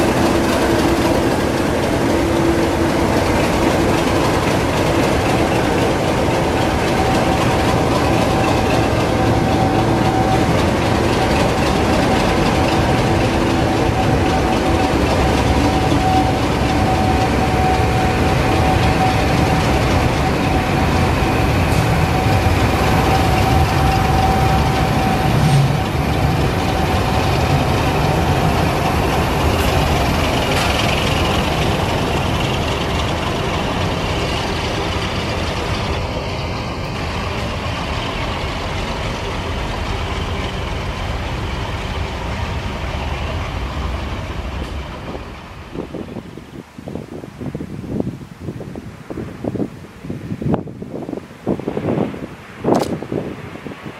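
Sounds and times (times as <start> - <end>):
train locomotive passing: 0.0 - 49.7.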